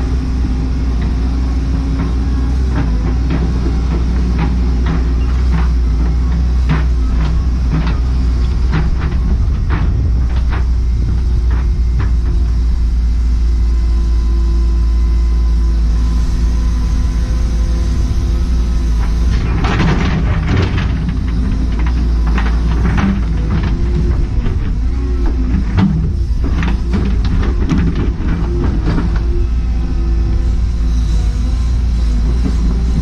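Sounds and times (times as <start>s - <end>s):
excavator diesel engine rumbling: 0.0s - 33.0s
steady whine: 0.0s - 33.0s.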